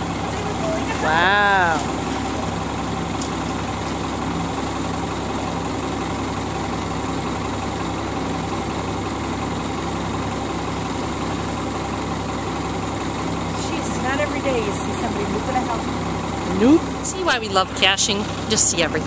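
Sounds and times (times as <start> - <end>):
heavy truck engine running: 0.0 - 19.0.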